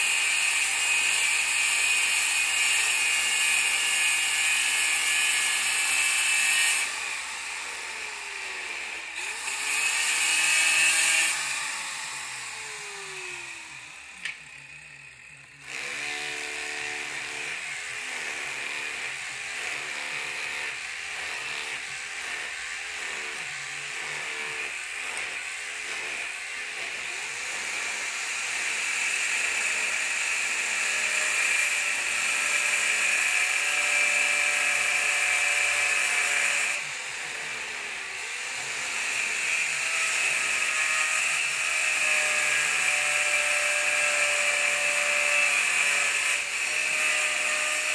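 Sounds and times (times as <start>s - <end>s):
power tools running: 0.0s - 47.9s.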